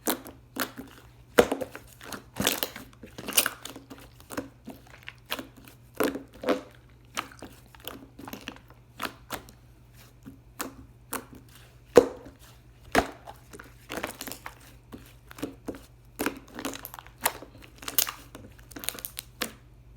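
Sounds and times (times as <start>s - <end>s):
crinkles and clicks from handling: 0.0s - 19.6s.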